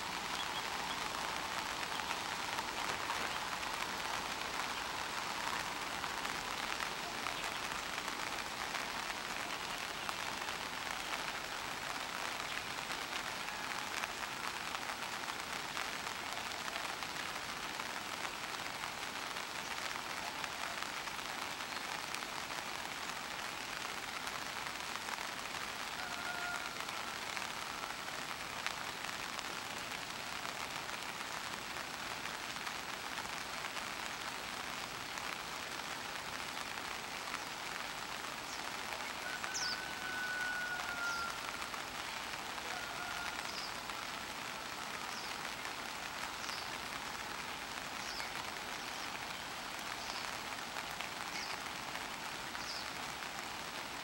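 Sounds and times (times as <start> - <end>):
steady rain-like hiss: 0.0 - 54.0.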